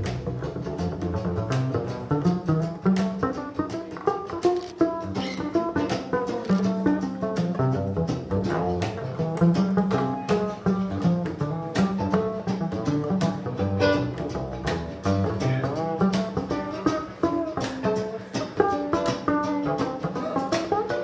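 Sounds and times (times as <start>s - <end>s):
acoustic string band playing: 0.0s - 21.0s
hand percussion hits: 0.0s - 21.0s.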